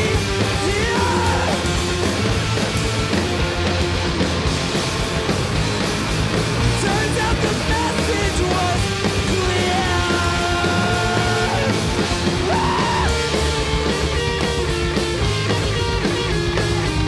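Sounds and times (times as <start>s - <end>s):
bass guitar: 0.0s - 17.0s
distorted electric guitars: 0.0s - 17.0s
drums: 0.0s - 17.0s.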